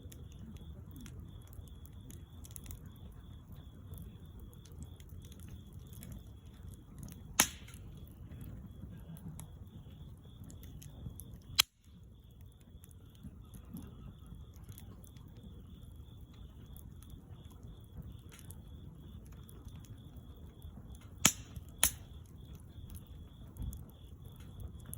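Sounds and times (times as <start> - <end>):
sharp pops from fire: 0.0 - 24.9
wood fire crackling: 0.0 - 24.9.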